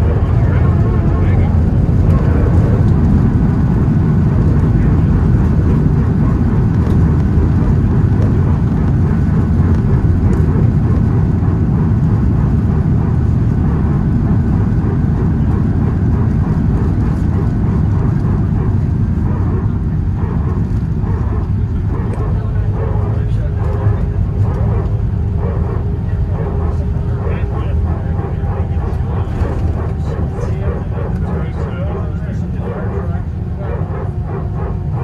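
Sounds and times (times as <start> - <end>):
airliner cabin low rumble: 0.0 - 35.0.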